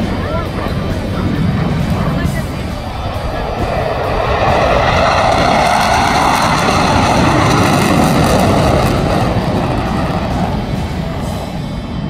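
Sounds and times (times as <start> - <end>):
fighter jets roaring overhead: 0.0 - 12.0.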